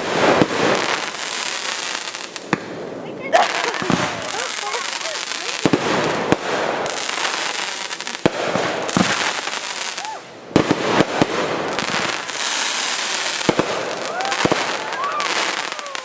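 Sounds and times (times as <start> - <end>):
firework shells bursting bangs: 0.0 - 15.8
fireworks crackling: 0.0 - 16.0.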